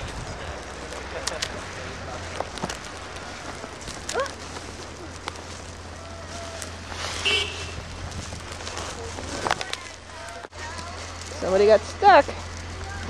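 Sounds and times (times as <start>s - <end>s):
crackles and clicks: 0.0s - 13.0s.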